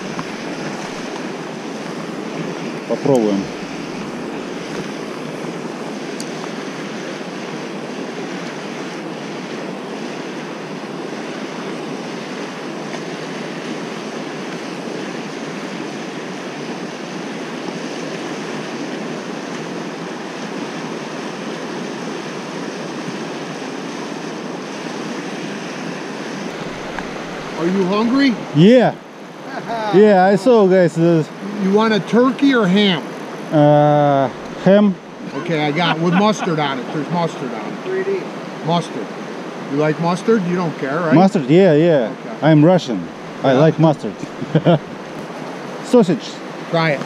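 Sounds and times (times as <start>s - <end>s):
river water rushing over rapids: 0.0s - 47.0s.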